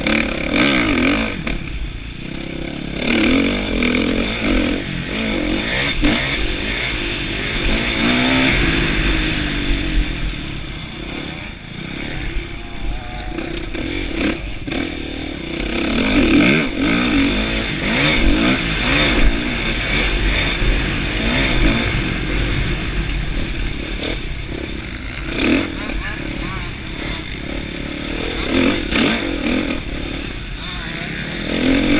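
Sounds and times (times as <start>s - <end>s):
motocross engine revving: 0.0s - 31.9s.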